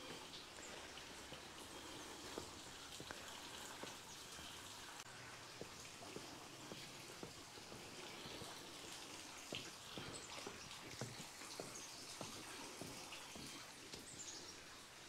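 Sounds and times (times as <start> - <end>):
footsteps on stone steps: 0.0 - 4.5, 5.4 - 14.9
light steady hiss: 0.0 - 15.0.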